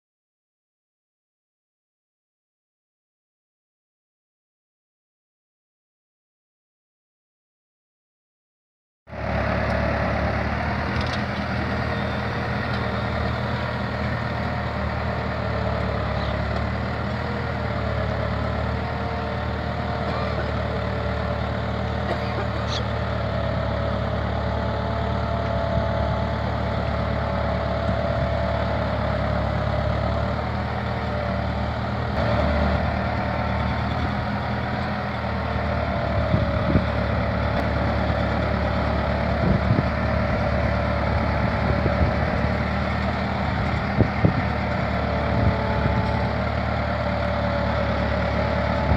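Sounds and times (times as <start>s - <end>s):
tractor engine under load: 9.1s - 48.9s.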